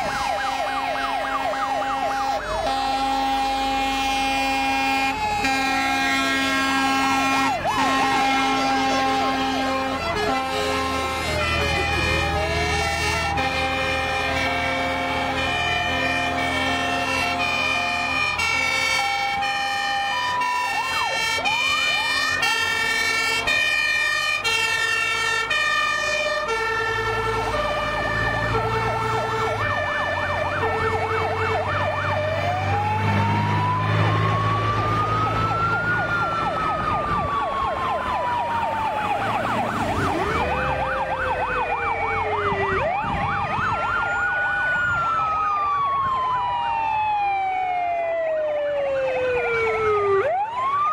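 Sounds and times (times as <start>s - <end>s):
fast yelp siren: 0.0s - 50.9s
fire truck diesel engine: 0.0s - 50.9s
two-tone hi-lo sirens: 0.0s - 50.9s
wail sirens: 0.0s - 50.9s.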